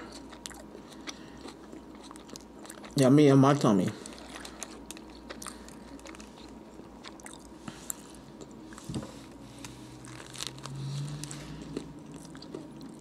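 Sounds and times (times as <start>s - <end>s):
chewing and biting sandwich: 0.0s - 3.0s, 3.9s - 13.0s
closed-mouth hum: 0.0s - 13.0s.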